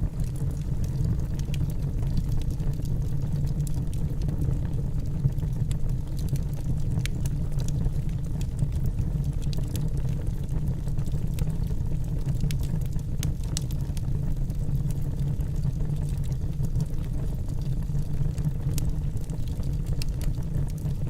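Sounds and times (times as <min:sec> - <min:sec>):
wood fire burning: 0:00.0 - 0:21.0.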